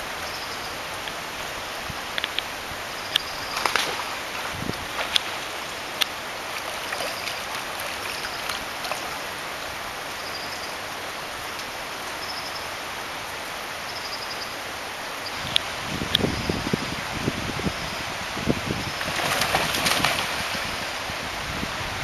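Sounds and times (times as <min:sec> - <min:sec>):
stream running over gravel: 0:00.0 - 0:13.9, 0:14.5 - 0:22.0.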